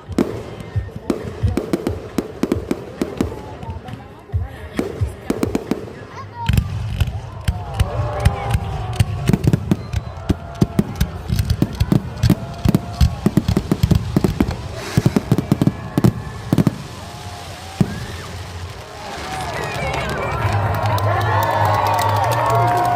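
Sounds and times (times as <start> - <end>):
fireworks bangs and crackles: 0.0 - 22.9
people's voices: 0.0 - 22.9.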